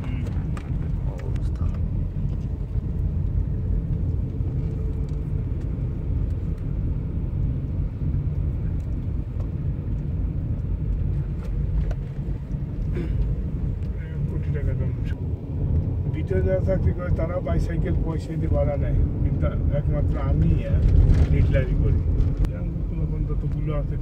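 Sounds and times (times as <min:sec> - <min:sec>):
road vehicle rumbling: 0:00.0 - 0:24.0.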